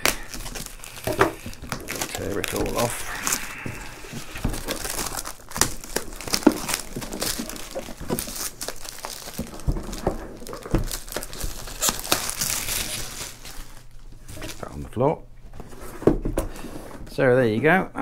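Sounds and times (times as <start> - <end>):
plastic wrap tearing and crinkling: 0.0 - 14.8.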